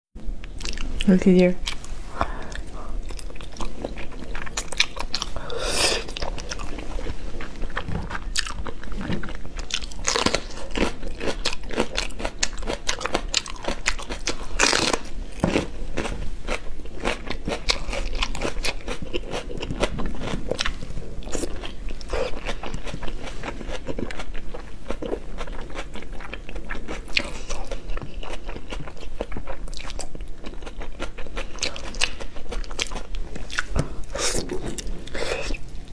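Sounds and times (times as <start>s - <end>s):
person chewing with mouth clicks: 0.4s - 35.9s.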